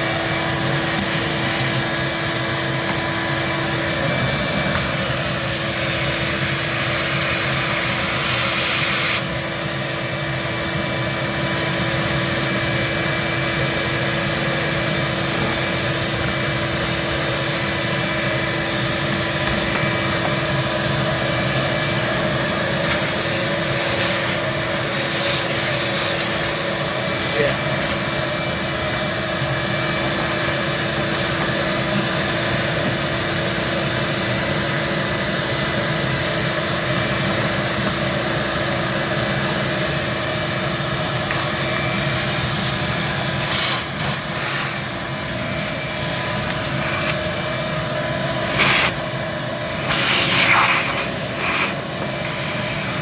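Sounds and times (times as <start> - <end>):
vacuum cleaner sucking debris: 0.0 - 9.4, 12.0 - 53.0.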